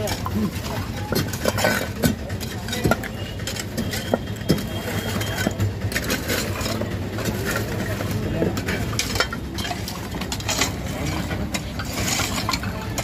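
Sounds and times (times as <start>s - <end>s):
bricks and rubble clattering: 0.0s - 13.0s.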